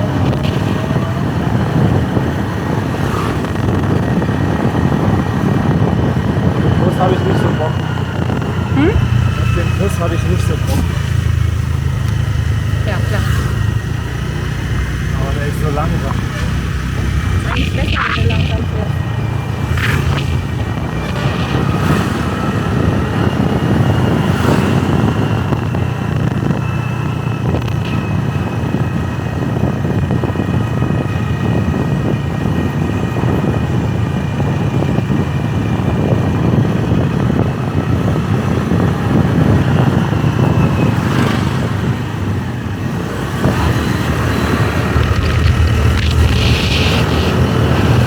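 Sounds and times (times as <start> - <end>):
motorbike engine running: 0.0 - 48.0.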